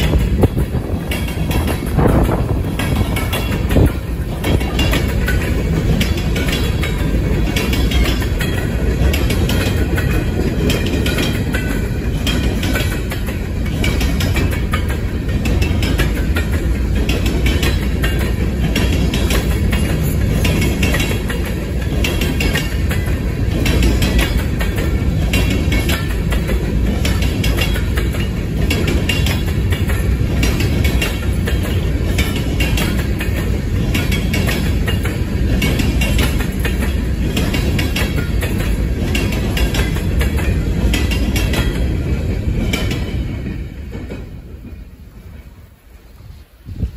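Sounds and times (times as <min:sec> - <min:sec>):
wheels clicking over rail joints: 0:00.0 - 0:45.6
train wheels rumbling on rail: 0:00.0 - 0:46.9.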